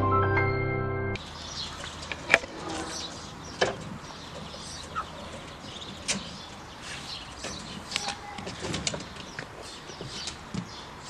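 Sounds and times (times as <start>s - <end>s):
faint bird chirping: 1.2s - 11.0s.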